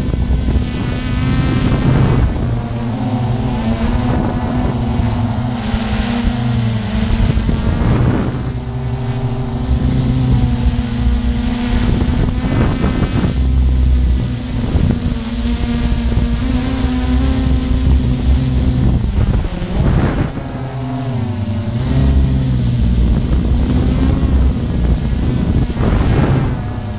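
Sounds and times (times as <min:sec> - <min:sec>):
drone propellers buzzing: 0:00.0 - 0:26.9
wind on microphone: 0:00.0 - 0:26.9.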